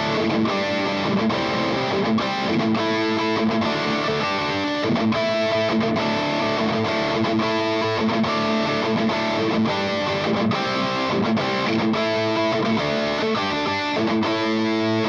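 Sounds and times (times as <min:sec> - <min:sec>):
overdriven electric guitar riff: 0:00.0 - 0:15.0.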